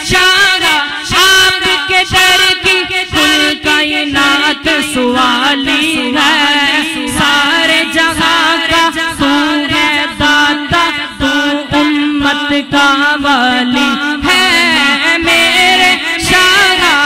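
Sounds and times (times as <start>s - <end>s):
person singing wordless melody: 0.0s - 17.0s.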